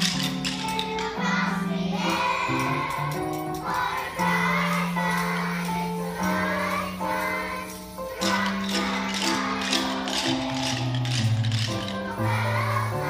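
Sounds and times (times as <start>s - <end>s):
children's choir singing: 0.0s - 13.0s
instrumental accompaniment: 0.0s - 13.0s
light shaken percussion: 0.0s - 13.0s.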